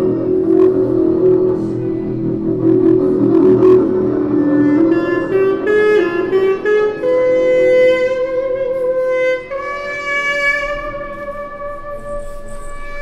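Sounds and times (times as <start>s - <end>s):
reedy wind instrument playing: 0.0s - 13.0s.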